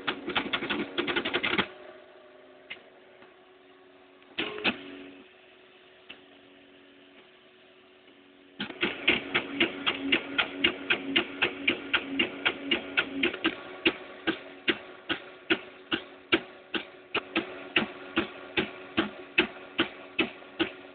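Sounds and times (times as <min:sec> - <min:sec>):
steady motor hum: 0:00.0 - 0:20.9.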